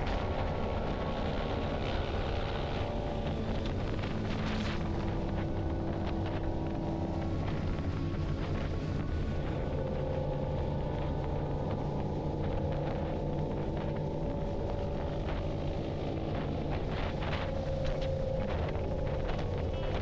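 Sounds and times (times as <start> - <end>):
motorcycle engine drone: 0.0 - 20.0
wind rumble on microphone: 0.0 - 20.0.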